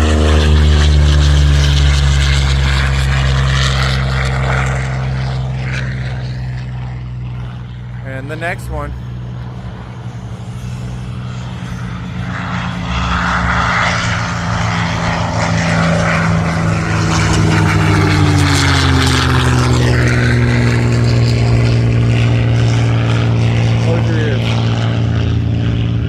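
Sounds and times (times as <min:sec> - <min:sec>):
propeller airplane flying past: 0:00.0 - 0:26.0.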